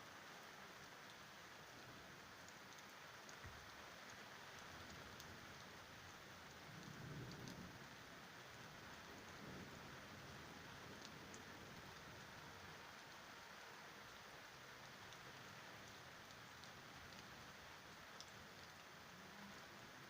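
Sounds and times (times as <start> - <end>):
faint rain falling: 0.0 - 20.0.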